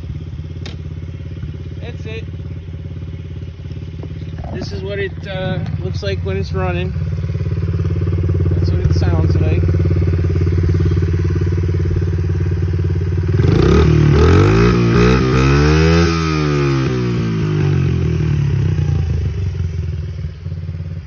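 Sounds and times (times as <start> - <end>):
small motorcycle engine revving: 0.0 - 21.0.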